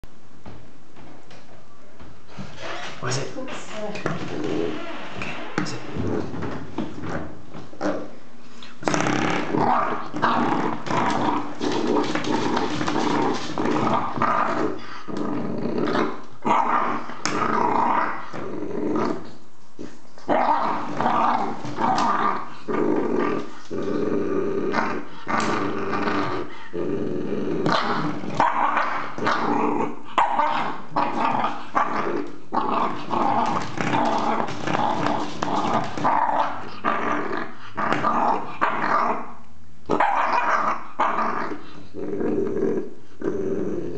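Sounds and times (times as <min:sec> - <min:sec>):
puppy growling: 0:04.1 - 0:43.9.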